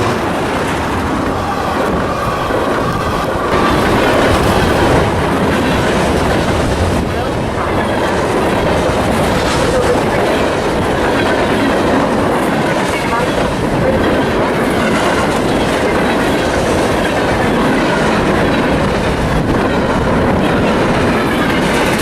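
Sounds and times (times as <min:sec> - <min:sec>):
steel train wheels rolling on rail: 0:00.0 - 0:22.0.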